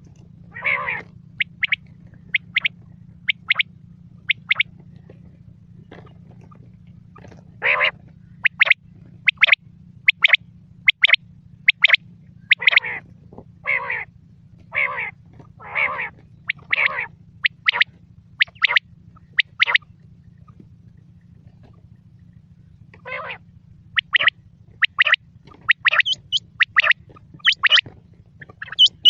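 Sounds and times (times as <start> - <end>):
steady low hum: 0.0 - 29.0
quail calling: 0.5 - 5.2, 5.9 - 20.6, 22.9 - 29.0.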